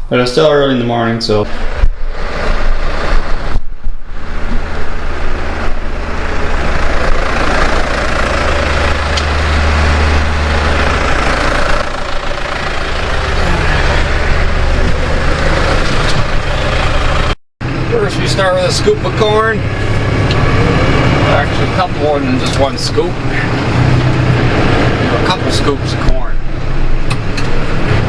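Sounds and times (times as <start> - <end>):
farm vehicle engine humming: 0.0 - 28.0.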